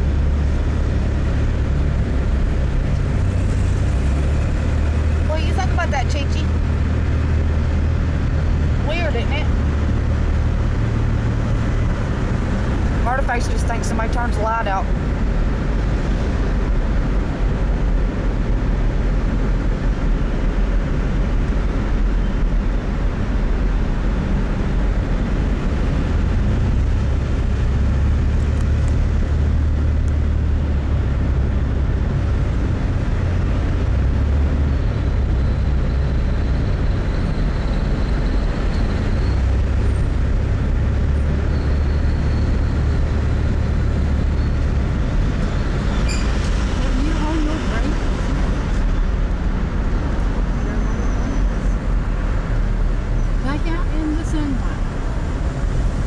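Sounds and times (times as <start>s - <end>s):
road noise inside car in tunnel: 0.0s - 56.0s.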